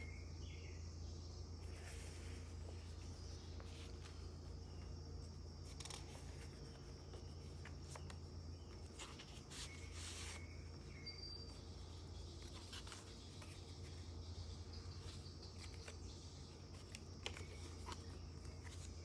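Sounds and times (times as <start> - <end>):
low steady hum: 0.0 - 19.0
paper pages rustling: 1.6 - 19.0.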